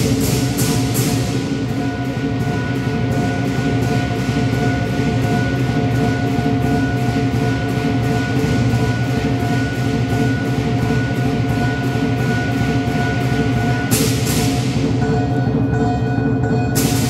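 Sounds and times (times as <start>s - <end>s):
big drum beating: 0.0s - 17.0s
cymbals clashing: 0.0s - 17.0s
gong ringing: 0.0s - 17.0s.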